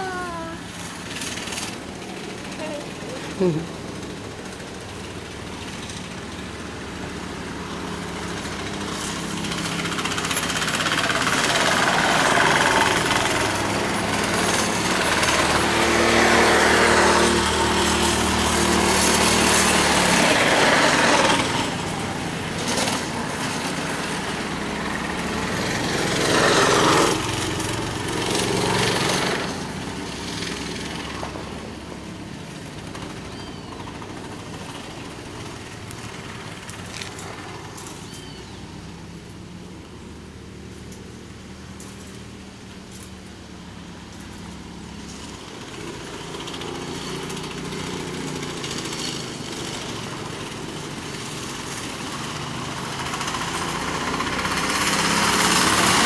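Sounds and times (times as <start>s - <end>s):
go-kart engine buzzing: 0.0s - 56.0s.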